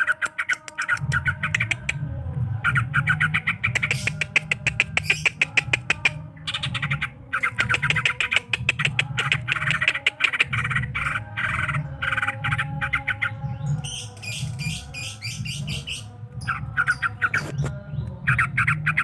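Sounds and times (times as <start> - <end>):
bird singing chattering song: 0.0 - 19.0.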